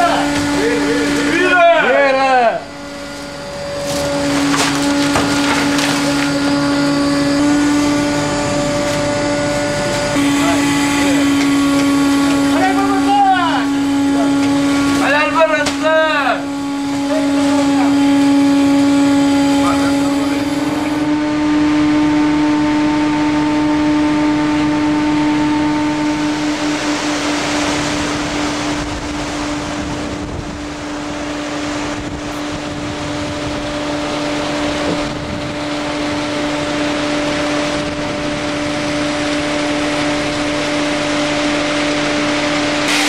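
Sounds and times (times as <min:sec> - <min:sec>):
boat machinery drone: 0:00.0 - 0:43.0.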